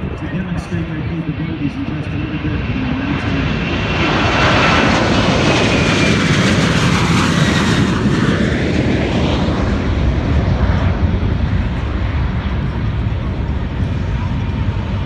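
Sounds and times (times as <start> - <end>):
jet aircraft passing: 0.0 - 15.0.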